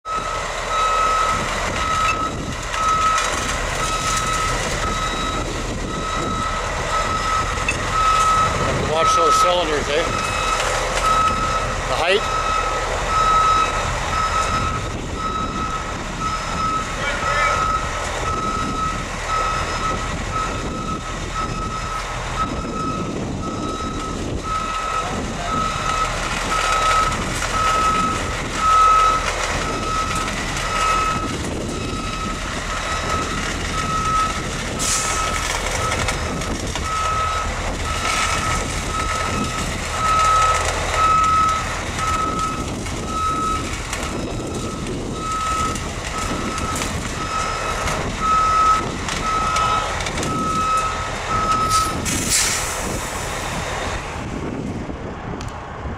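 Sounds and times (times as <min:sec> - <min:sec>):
back-up alarm beeping: 0:00.1 - 0:52.0
diesel engine running: 0:00.1 - 0:55.9.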